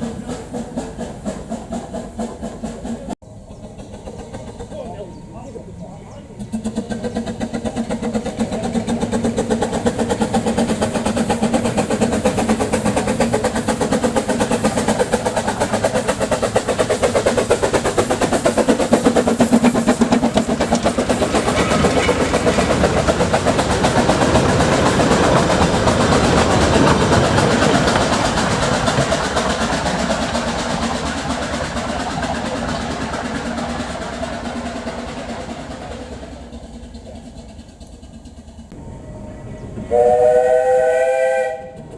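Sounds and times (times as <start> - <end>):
locomotive hauling train: 0.0 - 41.9.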